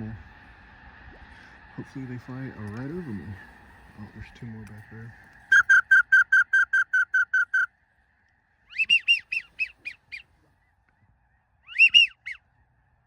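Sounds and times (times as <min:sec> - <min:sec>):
geese honking: 0:00.0 - 0:07.7, 0:08.7 - 0:12.6.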